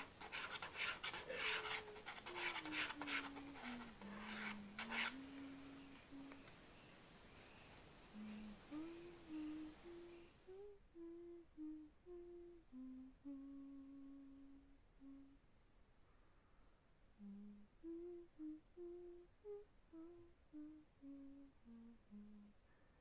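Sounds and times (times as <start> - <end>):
person humming softly: 0.0 - 15.5, 17.1 - 23.0
soft hiss: 0.0 - 23.0.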